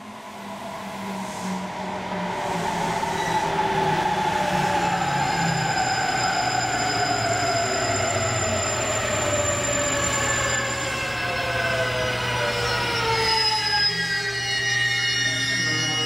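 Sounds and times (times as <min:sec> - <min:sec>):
high-speed train passing: 0:00.0 - 0:13.5
electric train passing: 0:00.0 - 0:13.7.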